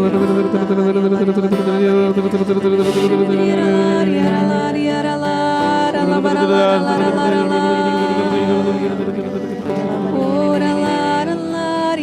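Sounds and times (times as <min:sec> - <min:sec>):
soft musical accompaniment: 0:00.0 - 0:12.0
voices singing long notes: 0:00.0 - 0:12.0.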